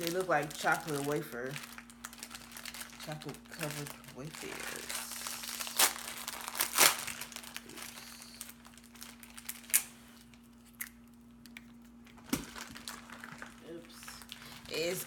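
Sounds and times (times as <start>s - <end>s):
candy wrapper crinkling: 0.0s - 15.0s.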